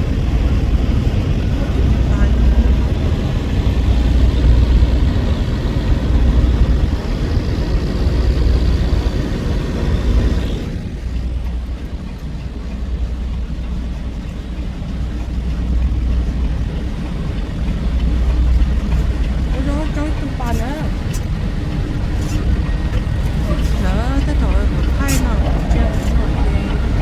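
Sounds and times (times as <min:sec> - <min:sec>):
truck engine and road drone: 0:00.0 - 0:27.0.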